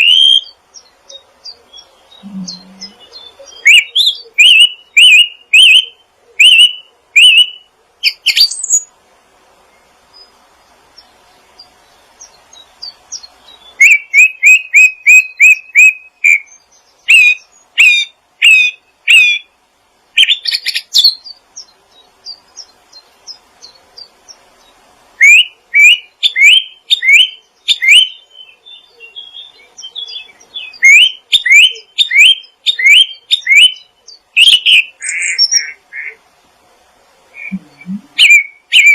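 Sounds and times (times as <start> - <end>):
small songbird chirping: 0.0 - 9.0, 9.6 - 19.6, 20.2 - 36.3, 37.3 - 38.9.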